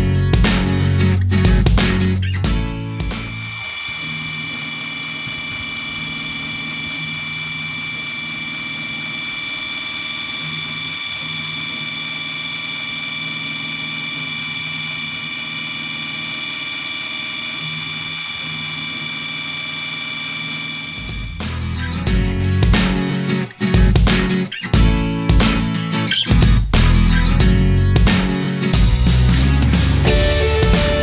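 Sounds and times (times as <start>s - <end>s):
milling machine whining: 1.9s - 26.4s, 28.7s - 31.0s.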